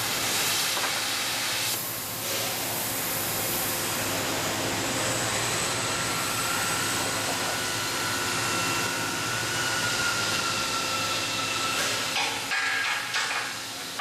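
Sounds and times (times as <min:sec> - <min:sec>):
cutting torch hissing: 0:00.0 - 0:14.0.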